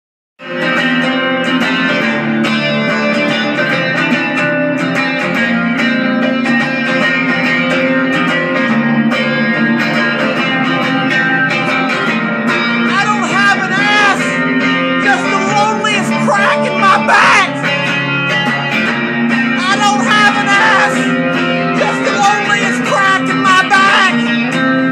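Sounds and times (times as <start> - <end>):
plucked guitar music: 0.4 - 24.9.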